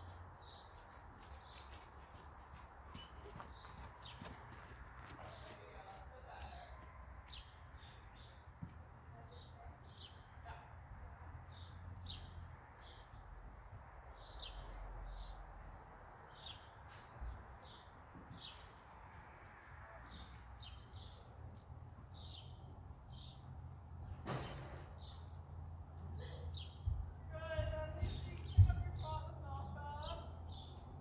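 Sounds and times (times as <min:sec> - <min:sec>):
birds chirping: 0:00.0 - 0:10.6, 0:11.4 - 0:19.2, 0:20.0 - 0:31.0.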